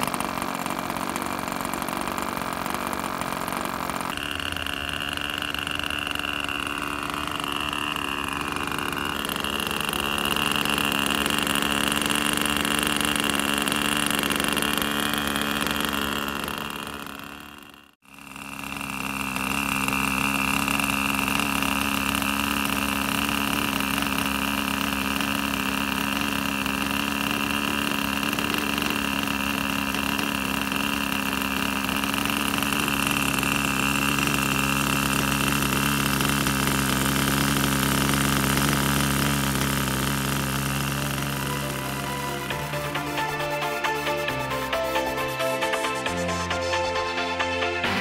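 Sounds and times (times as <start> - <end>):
low engine note: 0.0 - 48.0
model plane engine running: 0.0 - 48.0.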